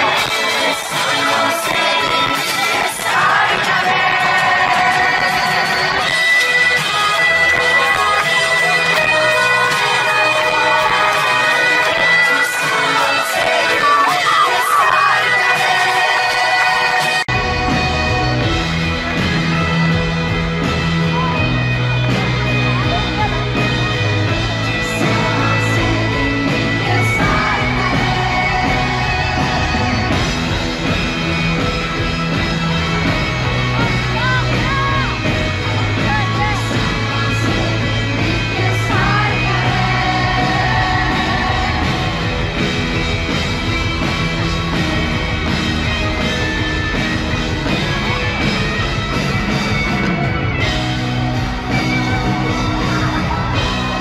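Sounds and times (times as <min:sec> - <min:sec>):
crowd yelling and whooping: 0:00.0 - 0:54.0
live pop band playing: 0:00.0 - 0:54.0.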